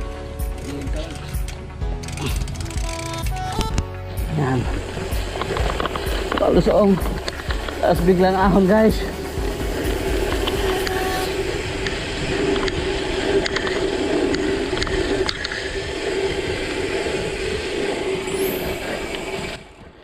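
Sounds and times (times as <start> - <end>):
bike clicks and rattles: 0.0 - 3.9, 4.7 - 18.0
bike tyres rolling on concrete: 0.0 - 20.0.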